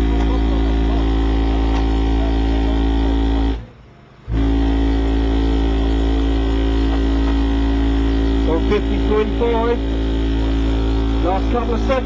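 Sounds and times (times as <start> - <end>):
distorted deep bass tone: 0.0 - 12.0.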